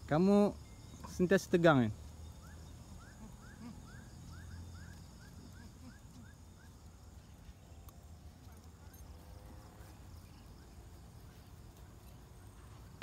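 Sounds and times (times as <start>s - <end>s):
bird chirping: 0.0s - 12.7s.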